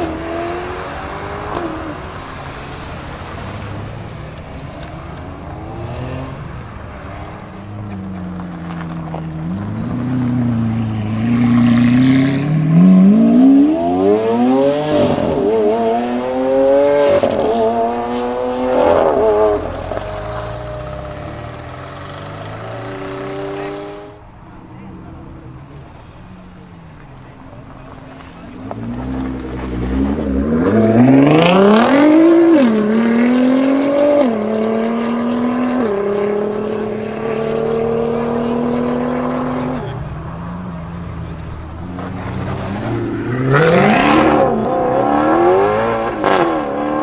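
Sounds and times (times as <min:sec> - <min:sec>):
car engine accelerating hard: 0:00.0 - 0:47.0.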